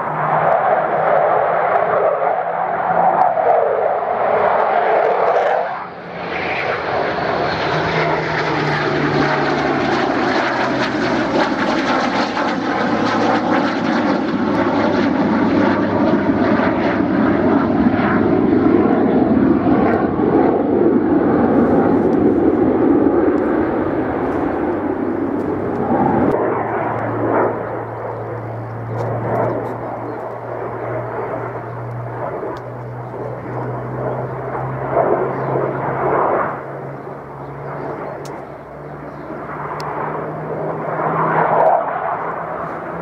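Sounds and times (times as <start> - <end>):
jet and propeller planes flying past: 0.0 - 43.0.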